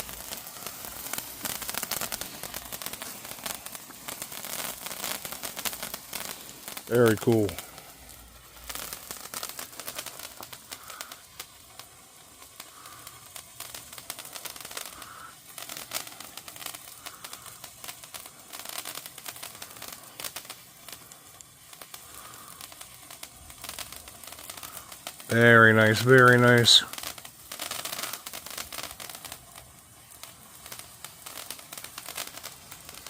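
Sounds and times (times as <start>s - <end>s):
crackling firework pops: 0.0s - 33.0s.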